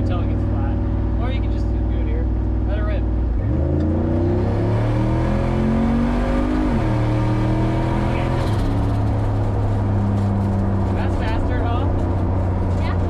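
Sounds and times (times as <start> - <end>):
car engine accelerating with upshifts: 0.0 - 13.0.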